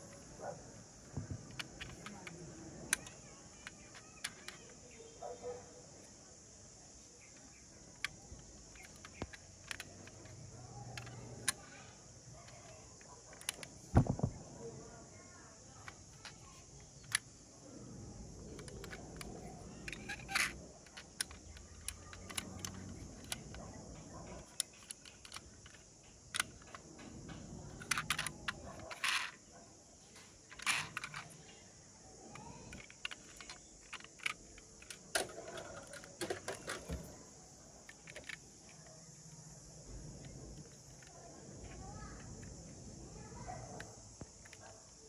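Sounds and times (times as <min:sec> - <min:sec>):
toy doors clicking: 0:00.0 - 0:05.2, 0:07.1 - 0:14.3, 0:15.7 - 0:17.5, 0:18.3 - 0:29.5, 0:30.1 - 0:39.4, 0:40.1 - 0:42.8.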